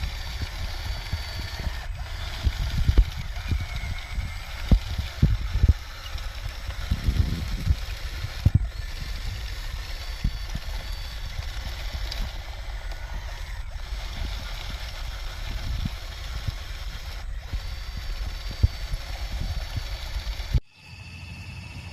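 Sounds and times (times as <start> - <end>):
model machines low rumble: 0.0 - 21.9.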